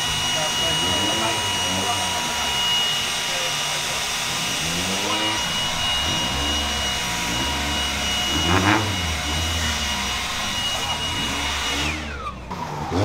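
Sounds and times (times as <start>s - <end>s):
leaf blower running: 0.0s - 13.0s.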